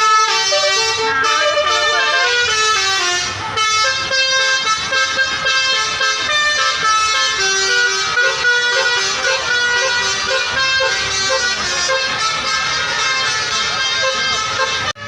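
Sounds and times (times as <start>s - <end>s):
multi-tone air horn melody: 0.0s - 15.0s.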